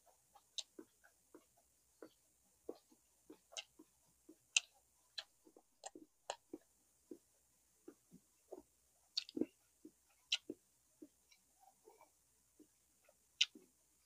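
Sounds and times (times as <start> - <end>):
wet chewing clicks and smacks: 0.4 - 7.2, 7.9 - 13.7.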